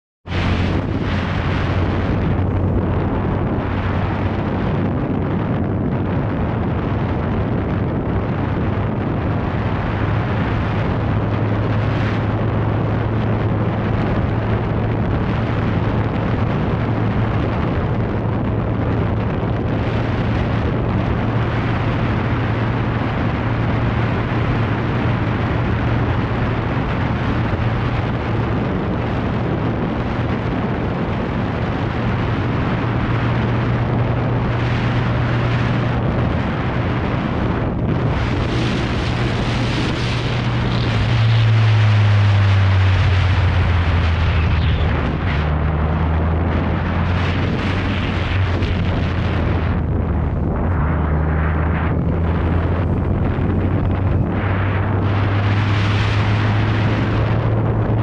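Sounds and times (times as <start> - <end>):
motorcycle engine hum: 0.2 - 58.0
wind rush on microphone: 0.2 - 58.0.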